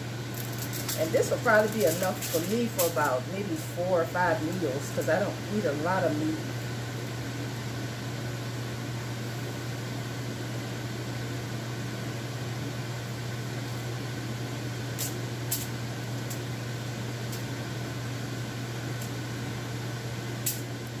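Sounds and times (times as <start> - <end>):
kitchen fan humming: 0.0 - 21.0.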